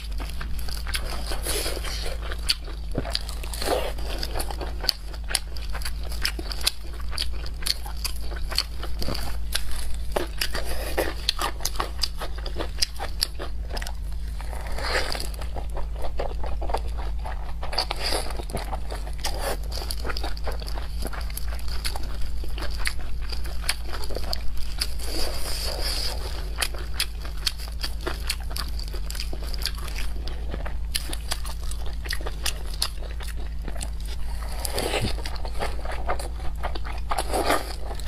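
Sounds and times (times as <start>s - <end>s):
person chewing and smacking: 0.0s - 38.0s.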